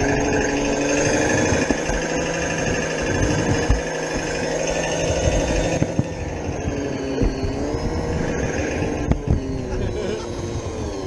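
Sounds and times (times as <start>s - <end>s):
wheels knocking on rails: 0.0s - 9.9s
wavering hum: 0.0s - 11.0s.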